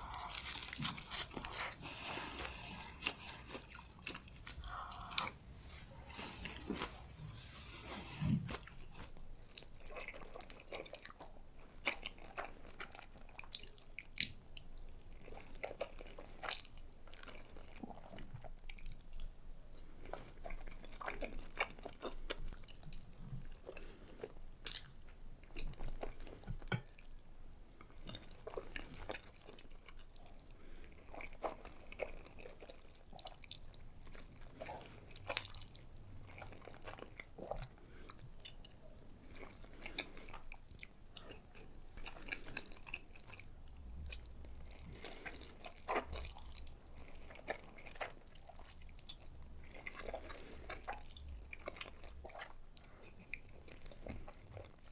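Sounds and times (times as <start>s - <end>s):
person chewing soft pasta: 0.0s - 54.9s.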